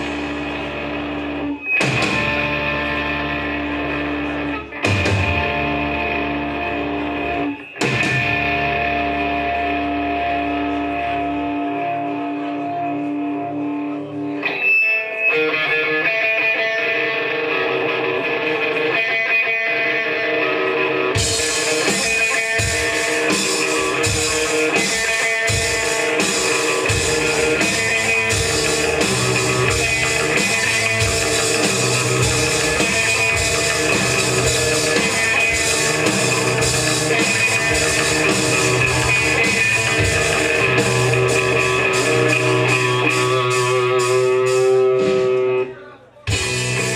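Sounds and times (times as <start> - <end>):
electric guitar: 0.0 - 46.9
punk rock band playing: 0.0 - 46.9.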